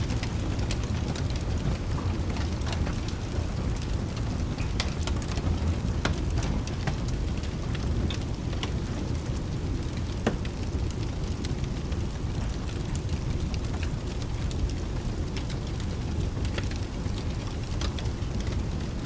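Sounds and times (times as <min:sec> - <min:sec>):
low thunder rumble: 0:00.0 - 0:19.0
steady rain: 0:00.0 - 0:19.0
wood fire crackling: 0:00.0 - 0:19.0.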